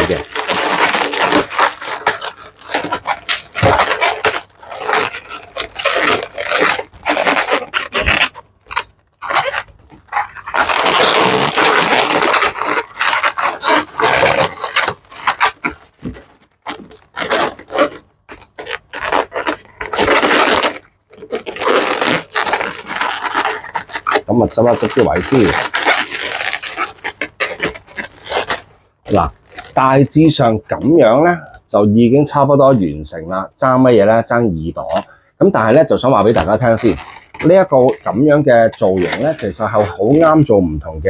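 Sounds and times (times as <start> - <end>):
balloons squeaking and rubbing: 0.0 - 41.0.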